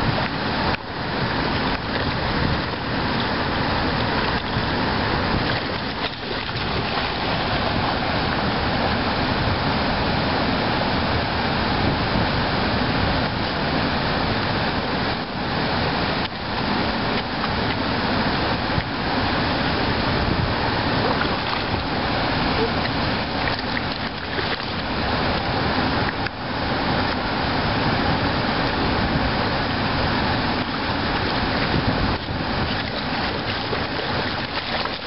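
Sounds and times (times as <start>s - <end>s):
rushing river water: 0.0s - 35.0s.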